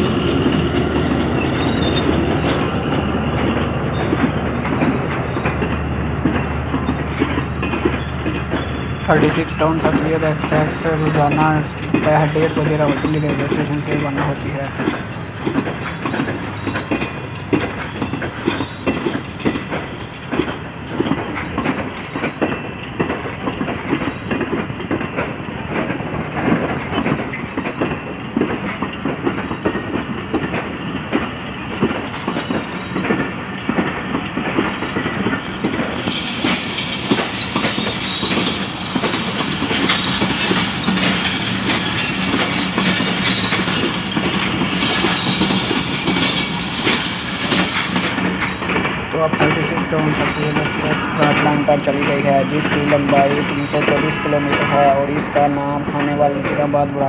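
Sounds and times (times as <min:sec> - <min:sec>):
train wheels clickety-clack: 0:00.0 - 0:57.0.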